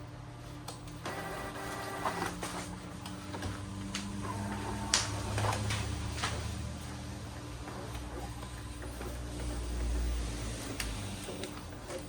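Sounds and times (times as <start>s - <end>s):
printer motors whirring: 0.3s - 12.0s.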